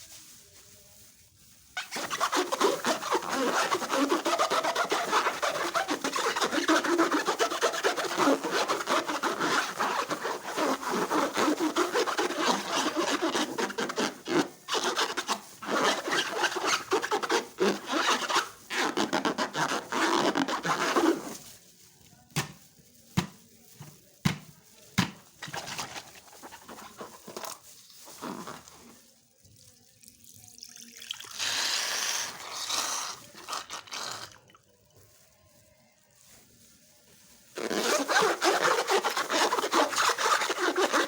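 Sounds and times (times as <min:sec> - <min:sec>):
slime being stirred by hand: 0:01.7 - 0:41.0.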